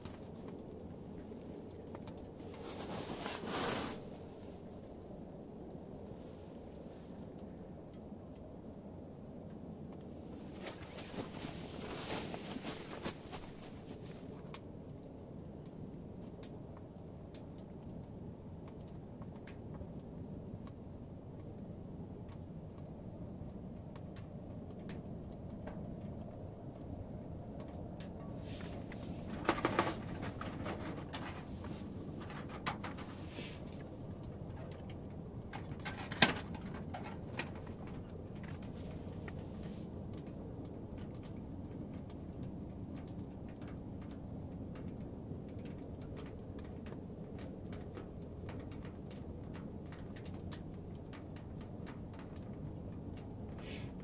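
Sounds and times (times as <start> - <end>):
wood fire in stove: 0.0 - 54.0.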